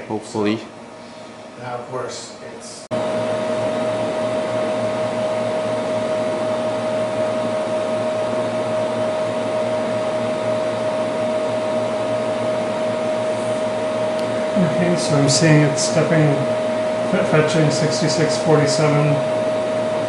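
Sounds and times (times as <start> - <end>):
cooling fans whirring: 0.0 - 20.0
high hum tone: 0.0 - 20.0.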